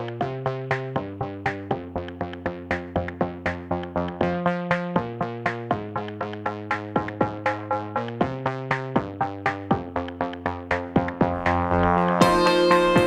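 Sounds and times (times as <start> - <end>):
steady electronic beat: 0.0 - 13.0
synthesizer chords: 0.0 - 13.0.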